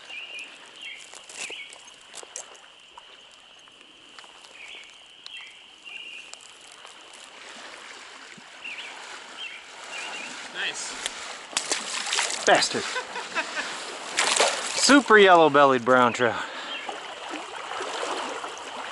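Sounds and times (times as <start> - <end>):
stream running: 0.0 - 18.9.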